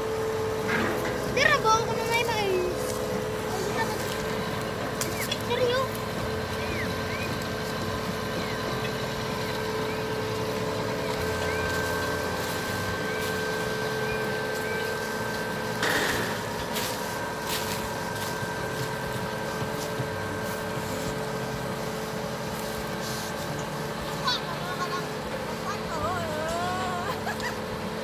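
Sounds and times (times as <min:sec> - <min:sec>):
pump truck running with whine: 0:00.0 - 0:28.0.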